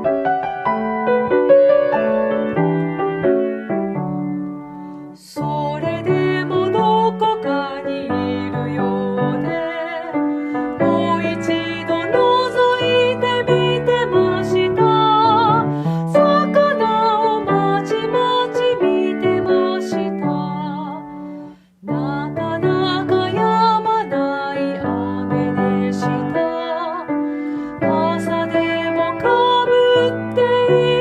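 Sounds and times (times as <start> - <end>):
piano accompaniment: 0.0 - 31.0
woman singing: 5.2 - 31.0.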